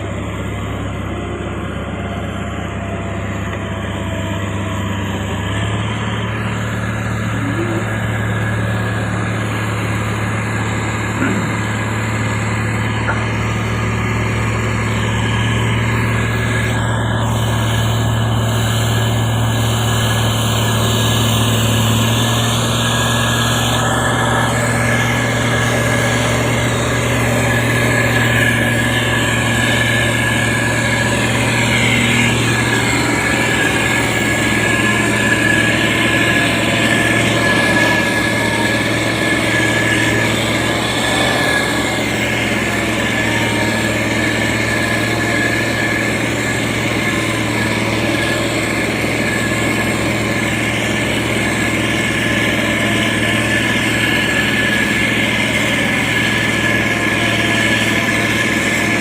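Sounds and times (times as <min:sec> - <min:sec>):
heavy machine engine humming: 0:00.0 - 0:59.0.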